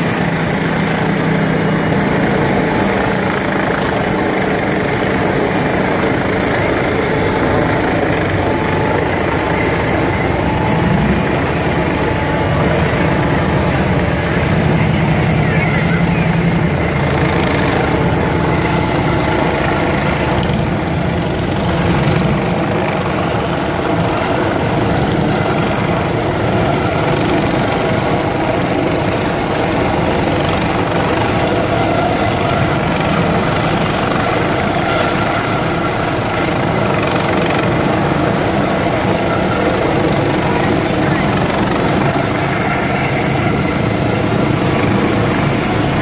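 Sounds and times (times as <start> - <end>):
vehicles passing close by: 0.0 - 46.0.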